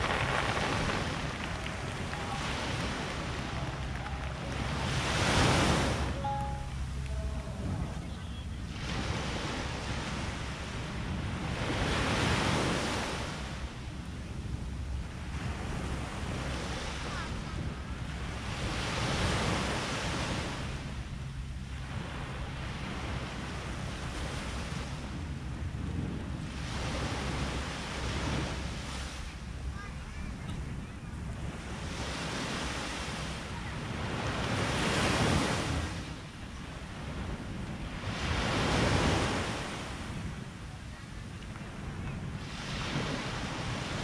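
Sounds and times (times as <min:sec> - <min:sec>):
waves washing onto beach: 0:00.0 - 0:44.0
wind rumble on microphone: 0:00.0 - 0:44.0.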